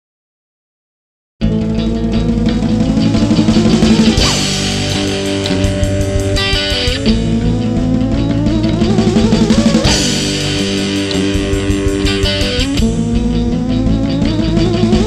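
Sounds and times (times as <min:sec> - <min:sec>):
indie rock band playing: 0:01.4 - 0:15.0.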